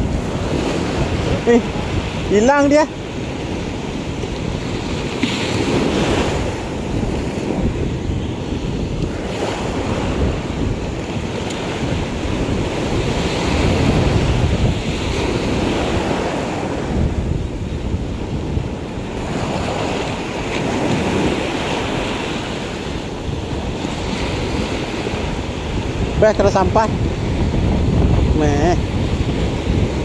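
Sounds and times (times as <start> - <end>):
sea surf breaking: 0.0 - 30.0
wind buffeting microphone: 0.0 - 30.0.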